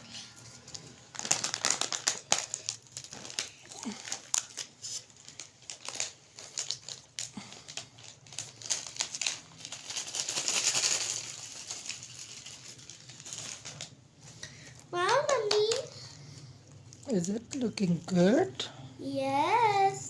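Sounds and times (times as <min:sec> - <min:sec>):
wrapping paper crinkling: 0:00.0 - 0:18.2.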